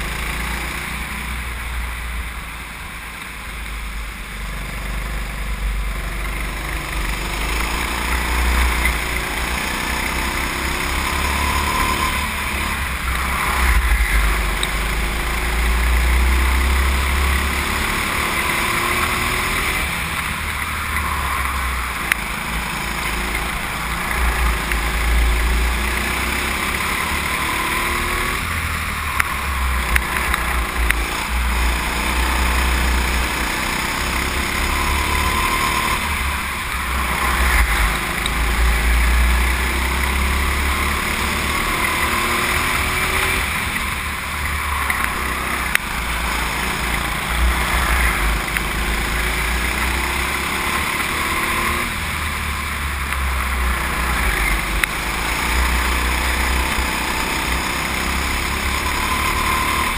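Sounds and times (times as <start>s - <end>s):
go-kart engine rumble: 0.0s - 59.9s.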